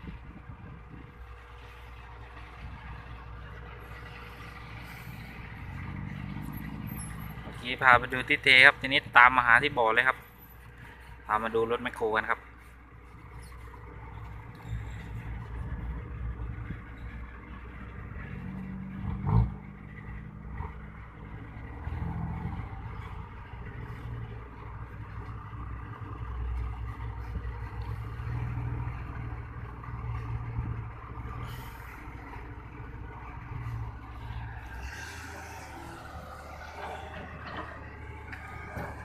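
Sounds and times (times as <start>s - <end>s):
excavator diesel engine working: 0.0s - 39.0s.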